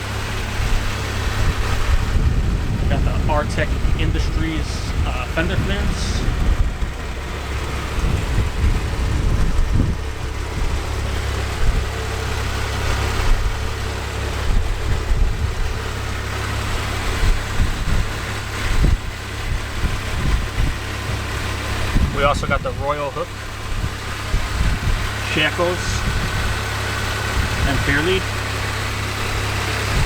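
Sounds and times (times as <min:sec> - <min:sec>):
wind buffeting microphone: 0:00.1 - 0:30.0.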